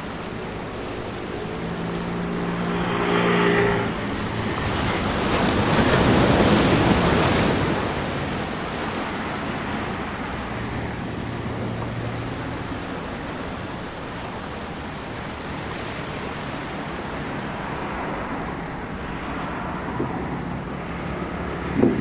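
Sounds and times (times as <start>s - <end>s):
low engine hum: 0.0s - 22.0s
waves washing over rocks: 0.0s - 22.0s.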